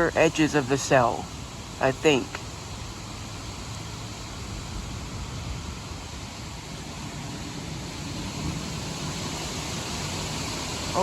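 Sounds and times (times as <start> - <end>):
strong storm wind blowing: 0.0 - 11.0.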